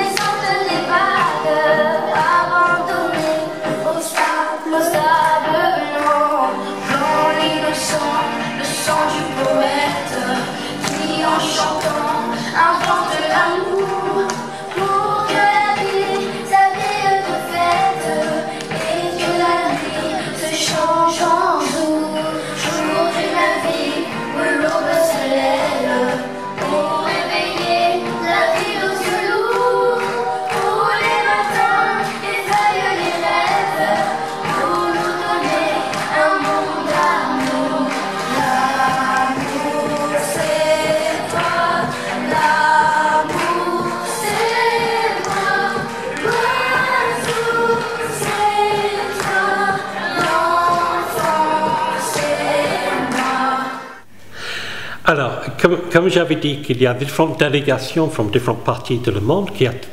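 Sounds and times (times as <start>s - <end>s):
instrumental backing with beat: 0.0s - 54.3s
group singing a song: 0.0s - 55.3s.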